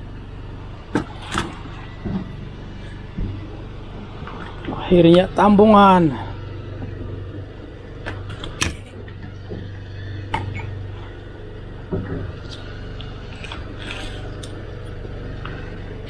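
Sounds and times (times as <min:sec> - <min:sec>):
boat machinery humming: 0:00.0 - 0:16.0.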